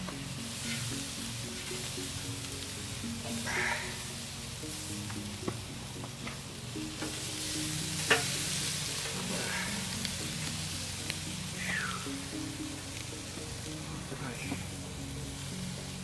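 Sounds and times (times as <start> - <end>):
meat sizzling over charcoal: 0.0 - 16.0.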